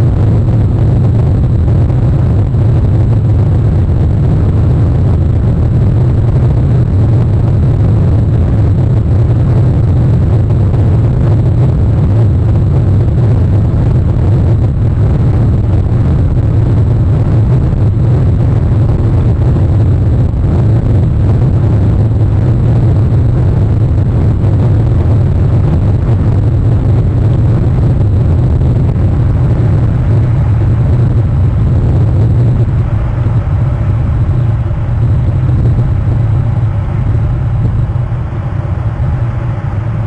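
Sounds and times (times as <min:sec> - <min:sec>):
wind and rain rumble: 0:00.0 - 0:40.0.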